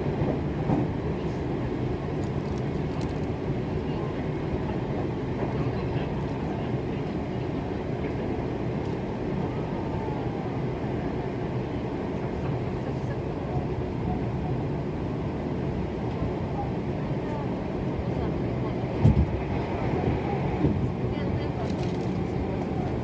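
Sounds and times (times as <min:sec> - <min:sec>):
train running gear rumble: 0:00.0 - 0:23.0.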